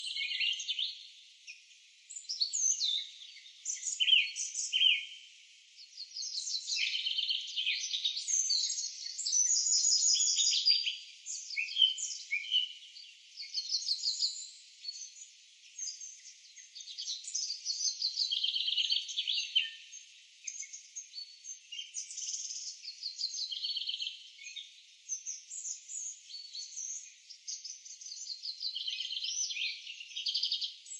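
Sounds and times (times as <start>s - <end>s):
forest birds chirping and trilling: 0.0s - 30.9s.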